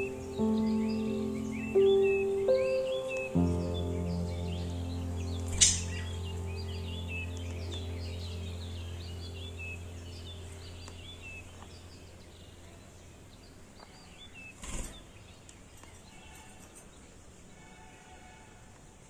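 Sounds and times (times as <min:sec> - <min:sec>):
low hum: 0:00.0 - 0:16.0
small birds chirping: 0:00.0 - 0:17.6.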